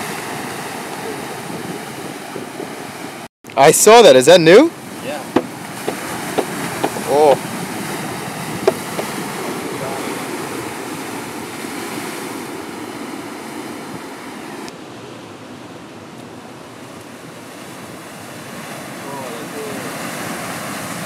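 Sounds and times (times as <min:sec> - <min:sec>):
ocean surf washing over rocks: 0:00.0 - 0:21.0.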